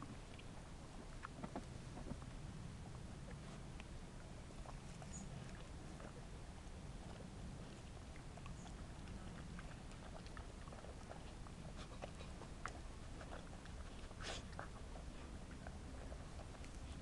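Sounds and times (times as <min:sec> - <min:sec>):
dogs crunching seeds: 0:00.0 - 0:17.0.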